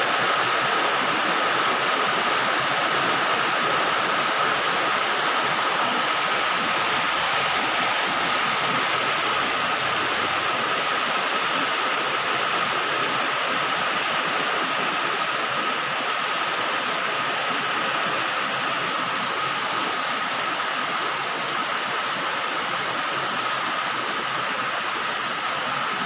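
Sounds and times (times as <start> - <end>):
rain on a metal roof: 0.0 - 26.0.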